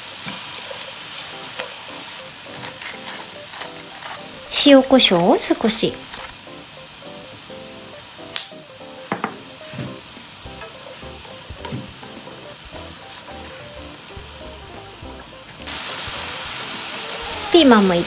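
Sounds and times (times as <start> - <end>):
chicken and onion sizzling: 0.0 - 18.0.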